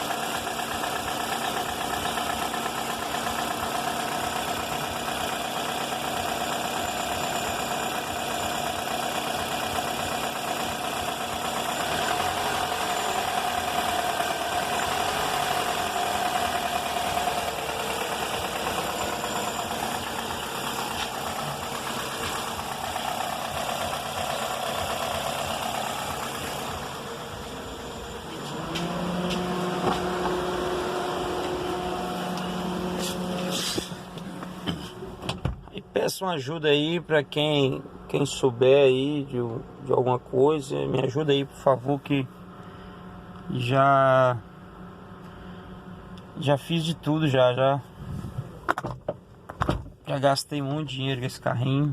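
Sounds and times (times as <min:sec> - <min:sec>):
car engine idling: 0:00.0 - 0:43.7.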